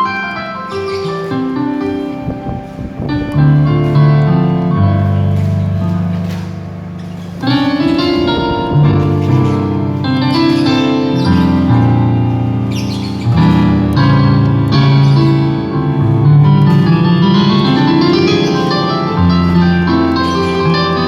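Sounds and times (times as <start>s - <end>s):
digital piano sustained chords: 0.0s - 21.0s.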